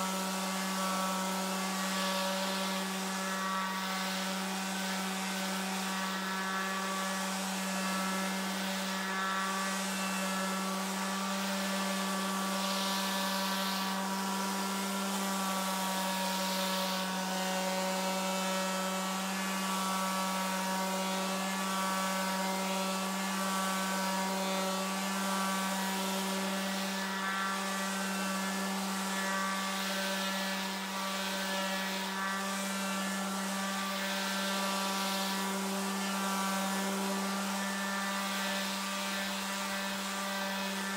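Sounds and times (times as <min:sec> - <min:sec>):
electric sander humming: 0:00.0 - 0:40.9
sandpaper hissing on wood: 0:00.0 - 0:40.9.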